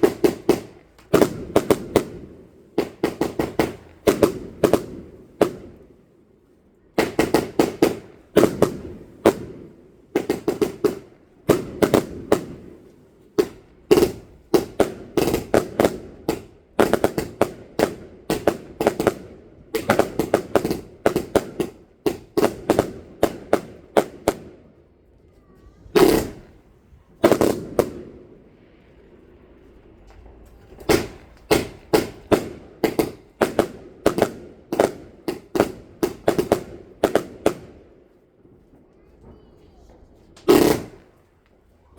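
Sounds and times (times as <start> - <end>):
fireworks bangs: 0.0 - 6.1, 6.9 - 41.9.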